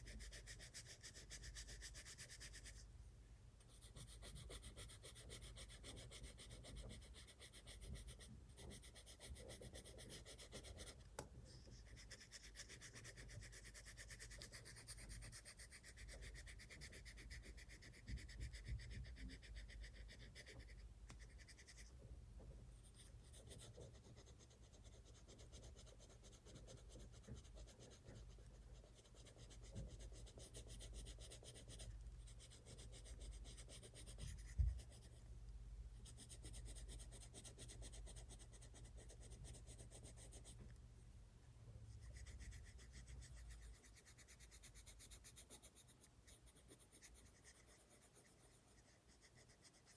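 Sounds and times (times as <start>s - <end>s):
pencil scratching on paper: 0.0s - 2.9s, 3.6s - 22.0s, 22.8s - 35.3s, 36.0s - 40.7s, 41.9s - 49.9s.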